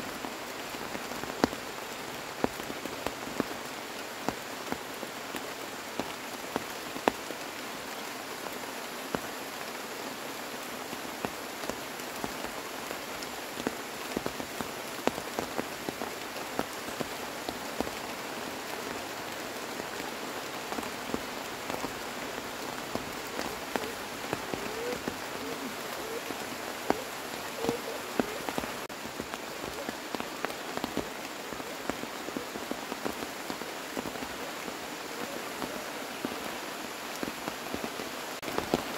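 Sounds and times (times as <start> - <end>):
raindrops ticking close by: 0.0 - 38.9
steady rain falling: 0.0 - 38.9.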